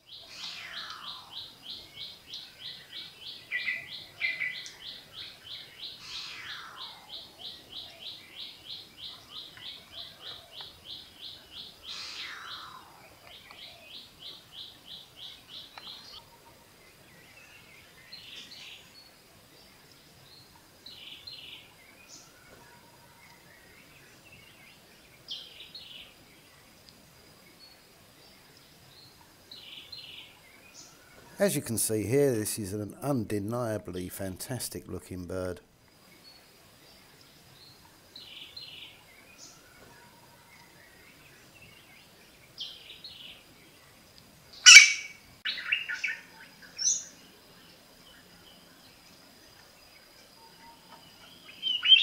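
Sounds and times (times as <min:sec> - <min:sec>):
forest birds calling: 0:00.0 - 0:52.0.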